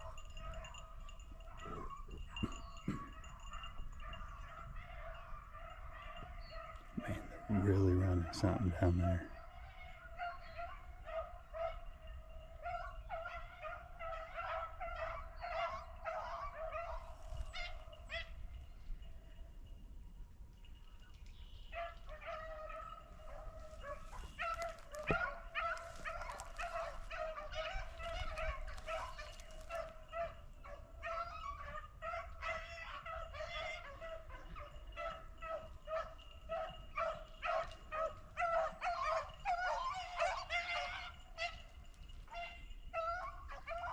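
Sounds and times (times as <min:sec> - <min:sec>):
beagles baying: 0:00.0 - 0:19.2, 0:21.6 - 0:43.9.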